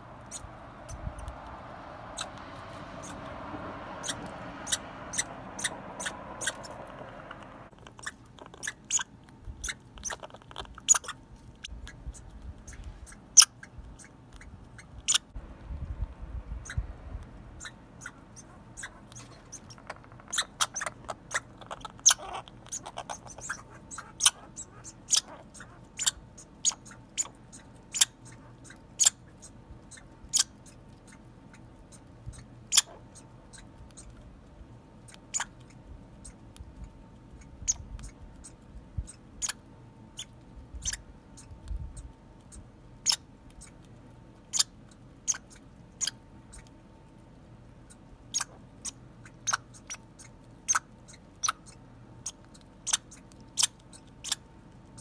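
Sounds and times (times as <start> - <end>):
squirrel chewing crunchy bites: 0.2 - 16.2, 17.1 - 55.0.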